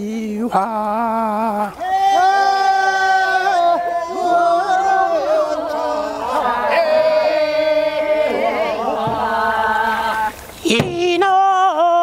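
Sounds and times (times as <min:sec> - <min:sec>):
group singing unaccompanied work song: 0:00.0 - 0:12.0.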